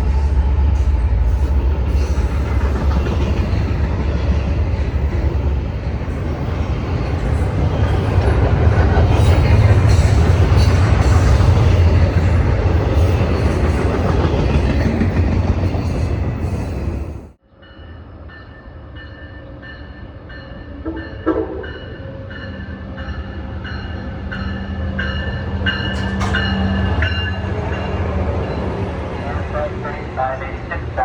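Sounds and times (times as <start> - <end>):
approaching train: 0.0 - 31.0
train rumbling past: 0.0 - 31.0.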